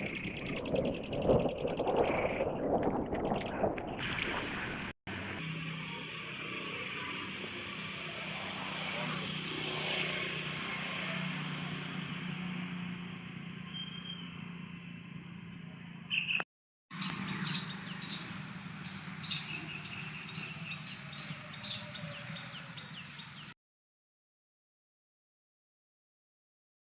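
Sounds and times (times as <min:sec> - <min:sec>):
birds chirping: 0:00.0 - 0:23.6.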